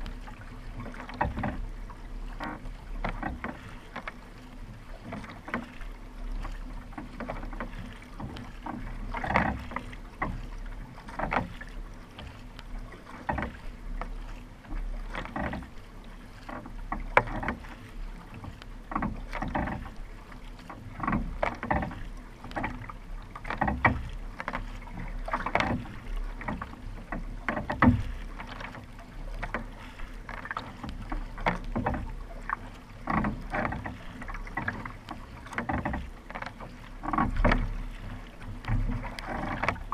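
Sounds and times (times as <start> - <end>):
kayak paddle strokes splashing: 0.0 - 39.9
water rushing along hull: 0.0 - 39.9.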